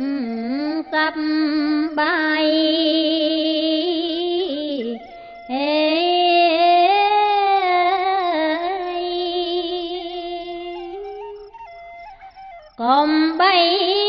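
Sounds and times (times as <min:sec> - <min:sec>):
woman chanting with vibrato: 0:00.0 - 0:11.5.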